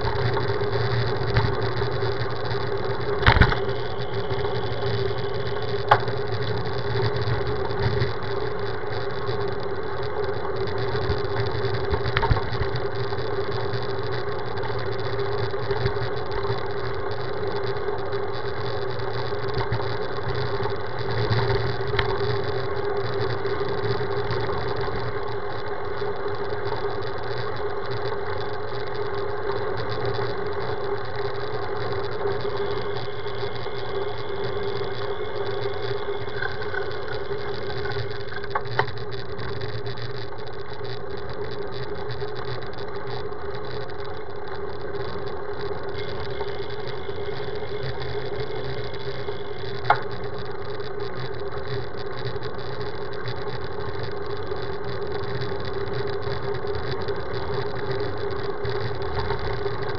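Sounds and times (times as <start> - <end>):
bicycle tyre noise: 0.0 - 59.9
mid-pitched hum: 0.0 - 59.9.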